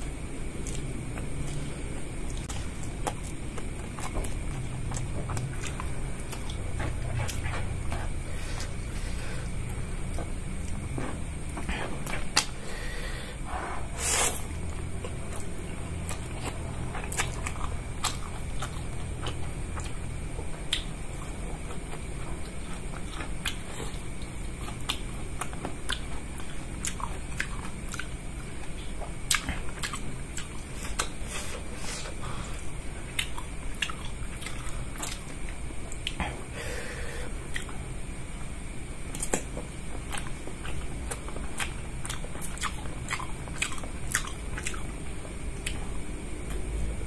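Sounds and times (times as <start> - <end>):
man chewing food: 0.0 - 47.0.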